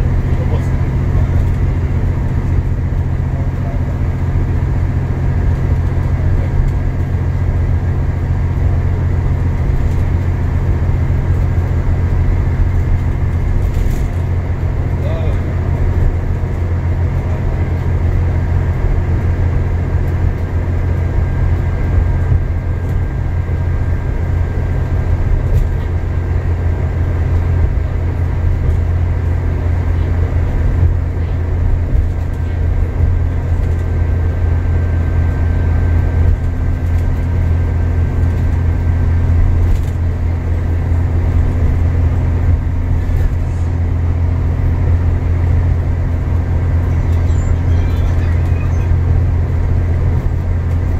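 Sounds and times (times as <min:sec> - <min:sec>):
bus engine drone and road noise: 0:00.0 - 0:50.9.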